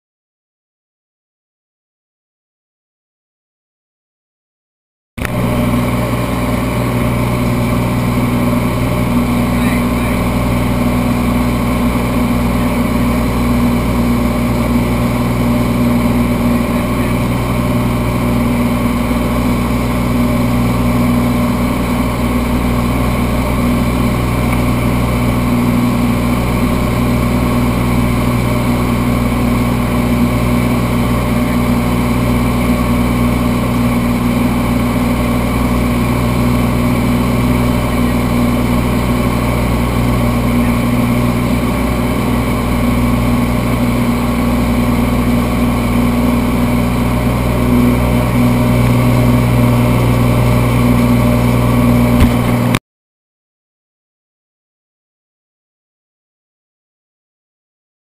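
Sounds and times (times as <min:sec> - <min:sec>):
airplane engine droning: 0:05.2 - 0:52.8.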